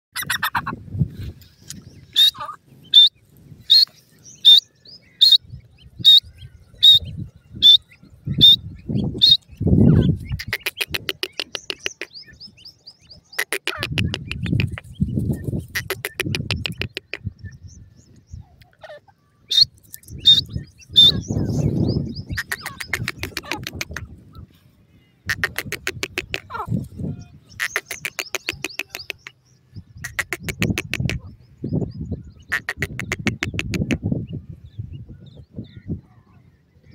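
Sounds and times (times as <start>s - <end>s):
birds chirping sharply: 1.4s - 36.9s
fast rattling bird trills: 1.7s - 17.8s, 19.5s - 24.4s, 25.2s - 34.2s.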